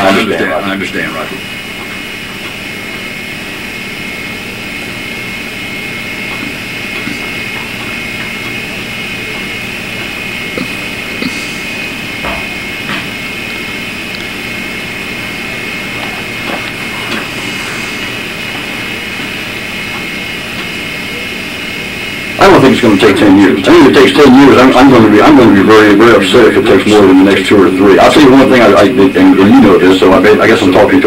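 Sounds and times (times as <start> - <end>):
high even whine: 0.0 - 31.0.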